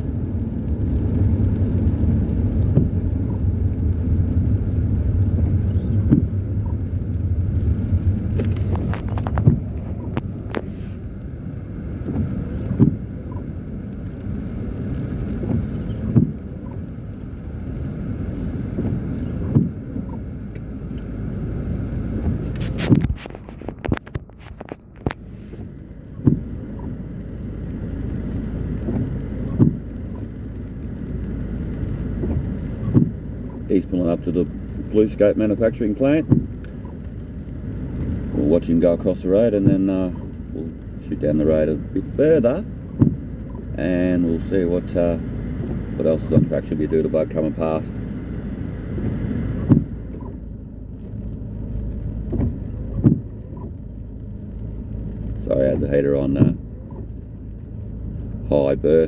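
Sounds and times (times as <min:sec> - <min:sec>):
locomotive engine rumble: 0:00.0 - 0:59.0.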